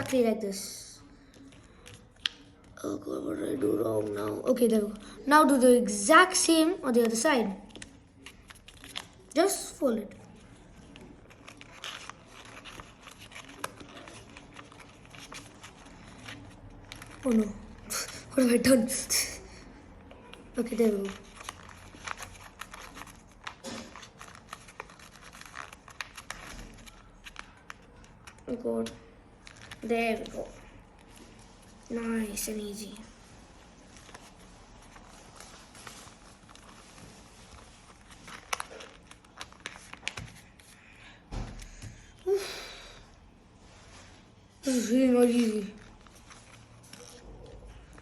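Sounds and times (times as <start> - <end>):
paper rustling and crinkling: 1.1 - 2.8, 6.9 - 18.7, 20.1 - 41.8, 43.6 - 48.0.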